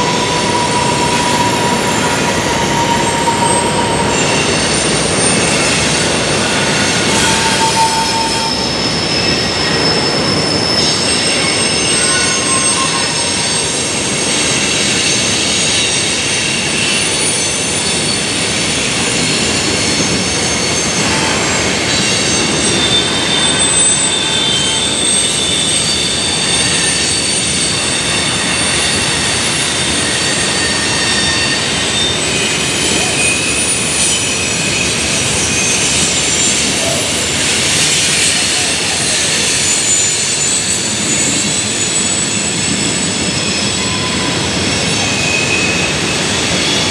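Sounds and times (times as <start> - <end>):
train rumbling: 0.0 - 46.9
train wheels squealing on rails: 0.0 - 46.9.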